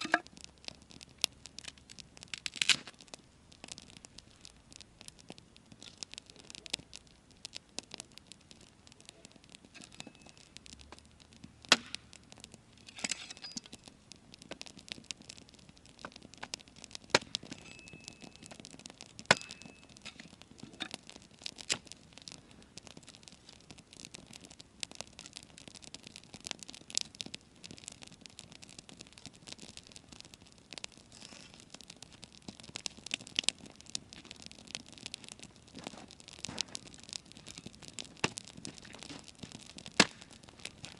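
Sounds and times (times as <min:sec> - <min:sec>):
campfire crackling: 0:00.0 - 0:40.9
loud fire pops: 0:00.0 - 0:40.9.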